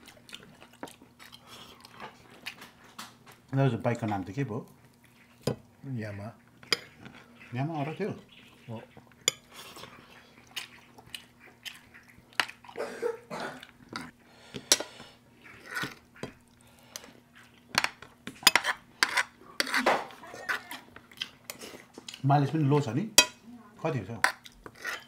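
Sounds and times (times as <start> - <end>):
eating noises: 0.0 - 5.8, 6.4 - 17.7, 18.8 - 22.6.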